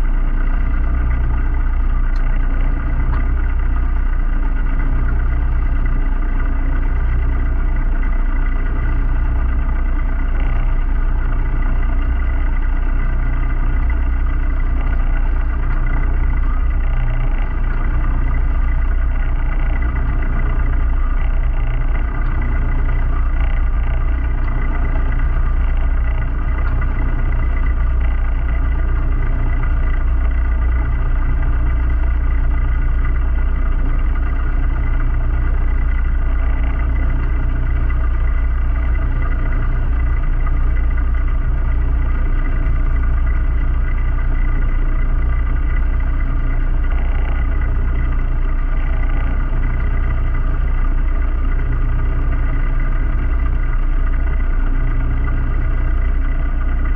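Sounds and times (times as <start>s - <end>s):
diesel engine running steadily: 0.0s - 56.9s.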